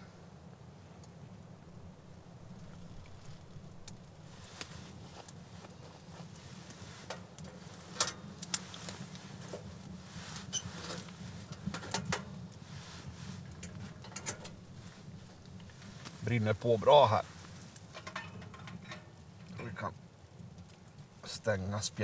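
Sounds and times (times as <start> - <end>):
wood fire crackling in a stove: 0.0 - 22.0.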